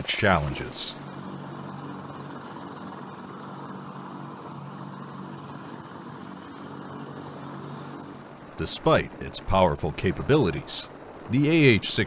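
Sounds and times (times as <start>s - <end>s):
helicopter rotor and turbine: 0.0s - 12.0s.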